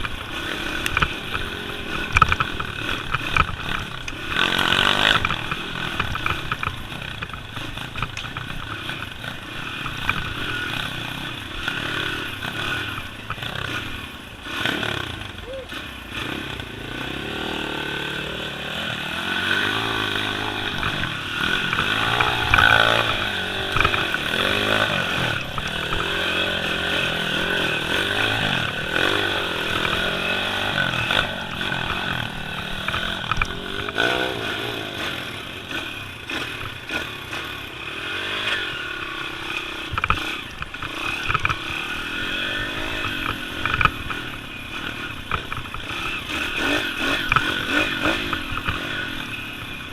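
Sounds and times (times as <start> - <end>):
pit bike engine revving: 0.0 - 49.9.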